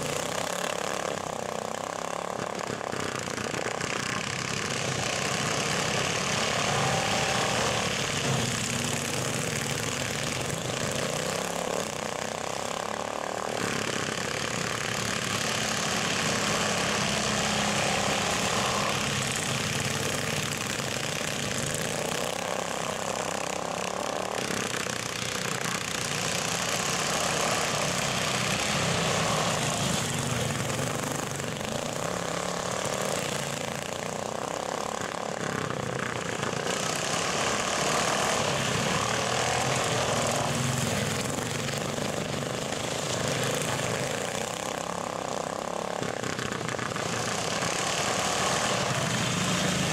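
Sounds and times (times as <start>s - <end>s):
small engines racing: 0.0s - 49.9s.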